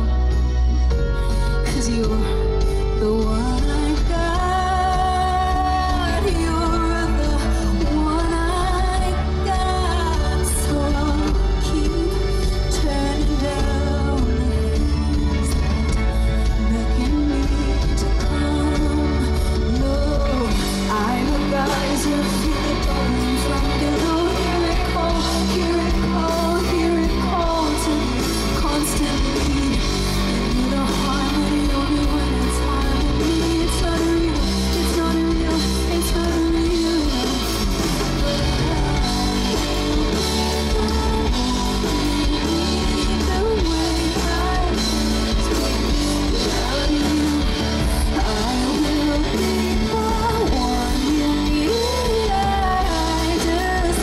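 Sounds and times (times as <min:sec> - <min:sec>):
rock band playing: 0:00.0 - 0:54.0
woman singing lead: 0:00.0 - 0:54.0.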